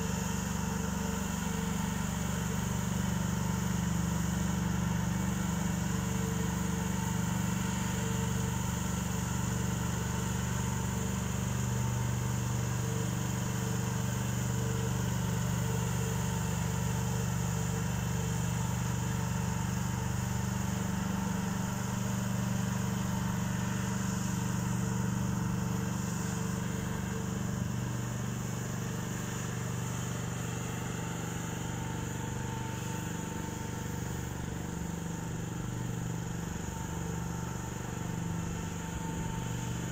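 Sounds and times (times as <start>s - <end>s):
misting cannon and generator hum: 0.0s - 39.9s.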